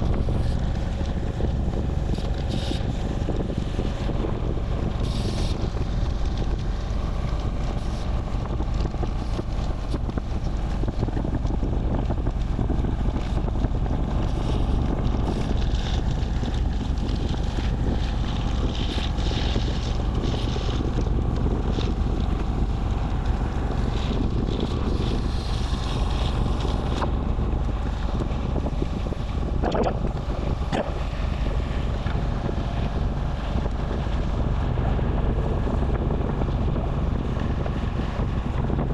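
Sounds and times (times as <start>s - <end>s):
low rumble: 0.0s - 38.9s
wind buffeting microphone: 0.0s - 38.9s.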